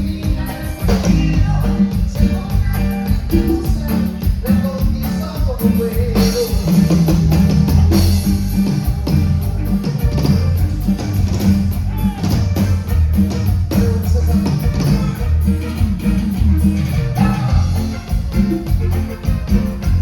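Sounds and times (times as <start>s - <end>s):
latin dance band playing: 0.0s - 20.0s.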